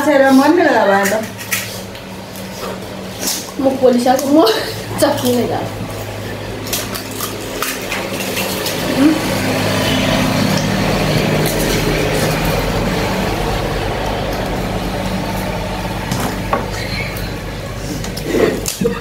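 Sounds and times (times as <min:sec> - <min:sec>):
motor vehicle passing: 0:00.0 - 0:19.0.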